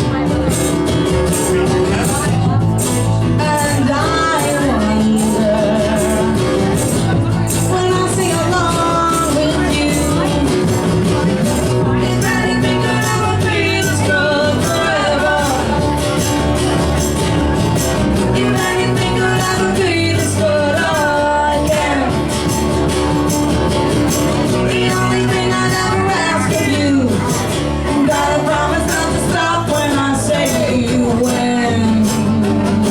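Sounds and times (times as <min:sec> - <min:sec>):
drums beating: 0:00.0 - 0:32.9
rock band playing: 0:00.0 - 0:32.9
person singing: 0:01.4 - 0:16.9, 0:18.0 - 0:22.8, 0:24.4 - 0:32.9.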